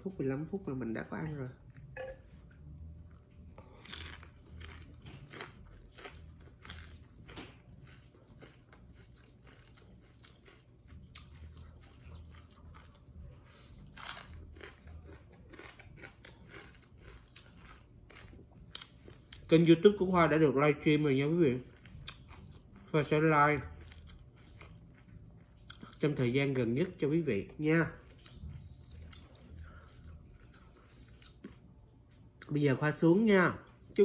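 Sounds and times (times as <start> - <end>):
crunching and chewing food: 0.0 - 34.0.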